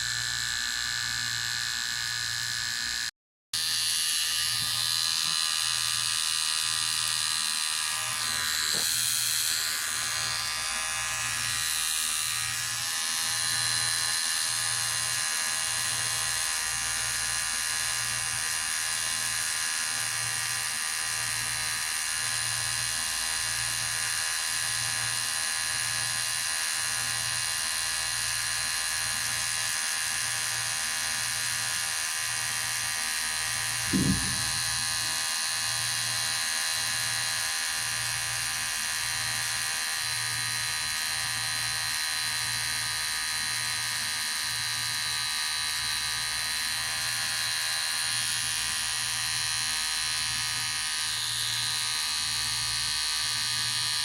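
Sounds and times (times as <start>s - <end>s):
electric hair clippers running: 0.0s - 54.0s.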